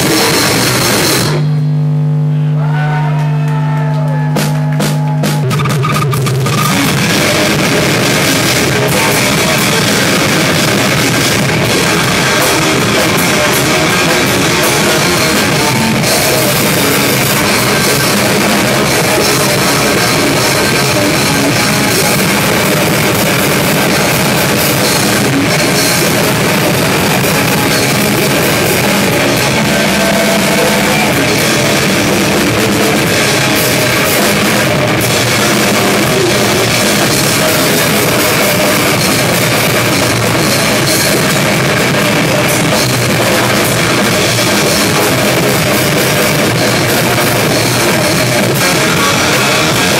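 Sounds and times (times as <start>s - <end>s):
distorted electric guitar: 0.0s - 49.9s
live heavy rock band: 0.0s - 49.9s.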